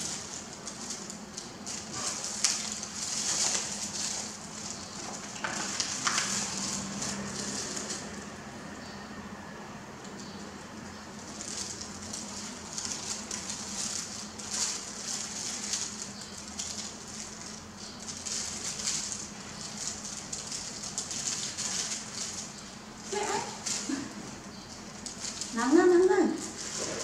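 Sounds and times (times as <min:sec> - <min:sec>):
plastic gloves rustling: 0:00.0 - 0:08.6, 0:10.4 - 0:27.0.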